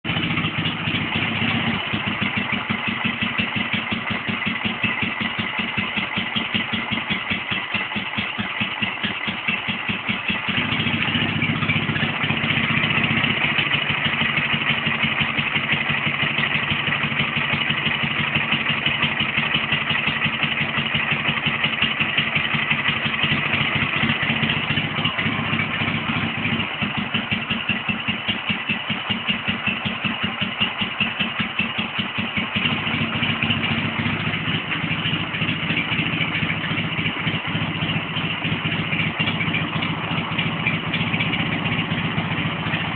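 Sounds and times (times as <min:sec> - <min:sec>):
motorcycle engine idling: 0:00.0 - 0:42.9.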